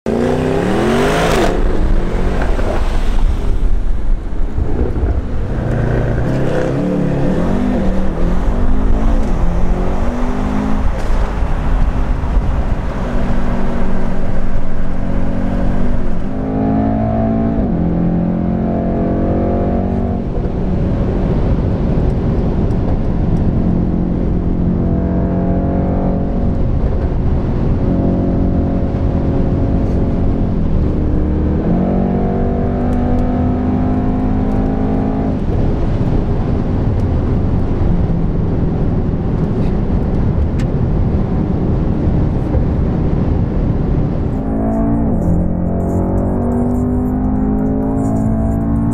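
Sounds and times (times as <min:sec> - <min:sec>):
car engine accelerating hard: 0:00.0 - 0:48.9
tyre and wind noise: 0:00.1 - 0:48.9.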